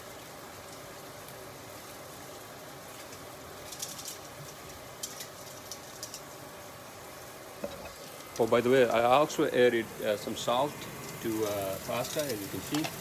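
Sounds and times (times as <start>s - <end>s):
fat spatter crackles: 0.0s - 13.0s
meat sizzling in a grill pan: 0.0s - 13.0s
range hood fan running: 0.0s - 13.0s.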